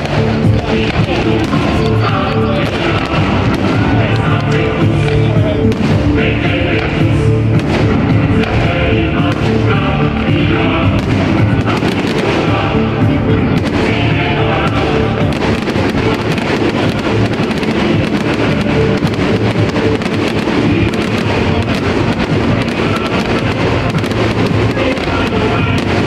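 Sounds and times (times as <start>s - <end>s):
fireworks bursting and crackling: 0.0s - 26.0s
loud music: 0.0s - 26.0s.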